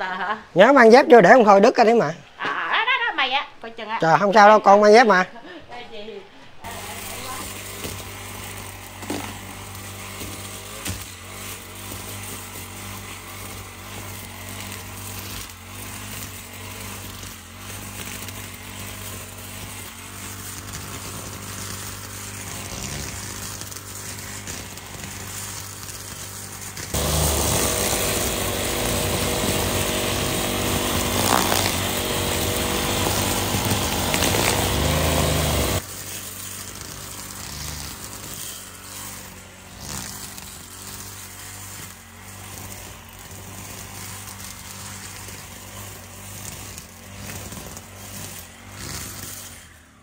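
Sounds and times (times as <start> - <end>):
brush cutter engine revving: 6.6 - 50.0.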